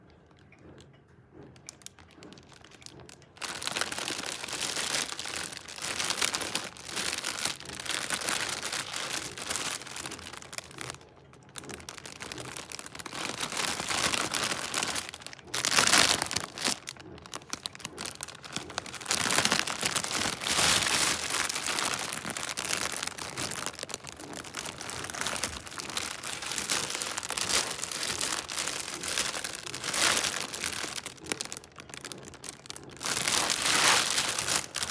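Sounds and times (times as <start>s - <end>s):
snack bag crinkling: 1.7s - 34.9s.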